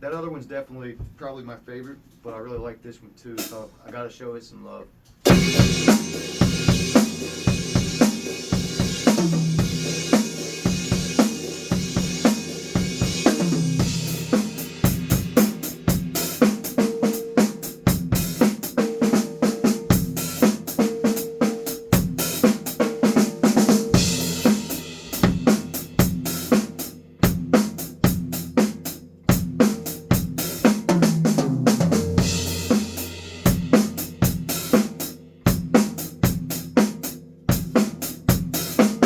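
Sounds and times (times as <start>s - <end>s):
drum kit played solo: 3.3s - 4.1s, 5.2s - 39.0s.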